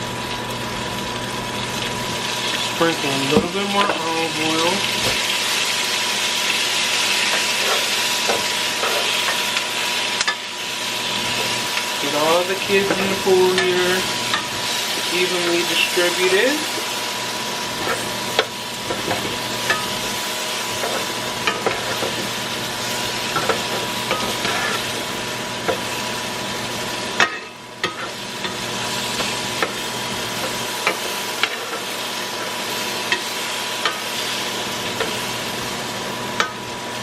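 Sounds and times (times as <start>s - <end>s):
vegetables sizzling in a frying pan: 0.0s - 37.0s.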